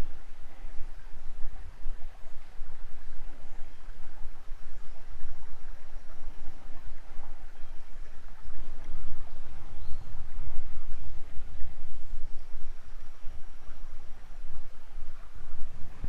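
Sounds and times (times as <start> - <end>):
creek water flowing: 0.0 - 16.0
low rumble buffeting microphone: 0.0 - 16.0.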